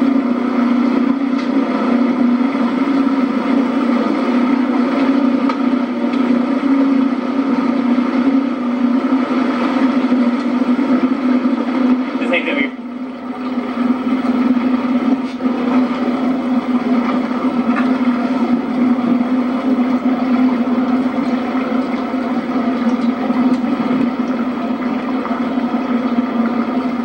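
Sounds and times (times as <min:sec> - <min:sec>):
motorboat engine droning: 0:00.0 - 0:27.0.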